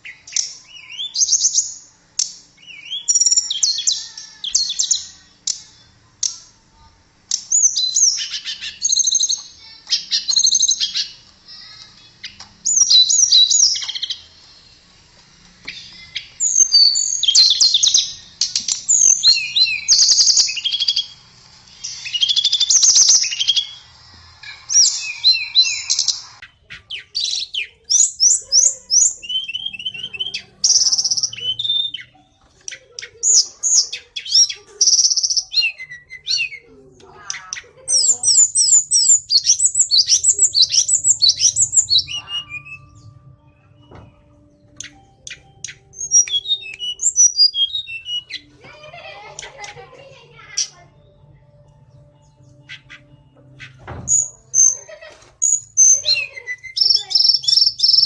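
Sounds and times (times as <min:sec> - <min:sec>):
bird twittering and trilling: 0:00.0 - 0:58.0.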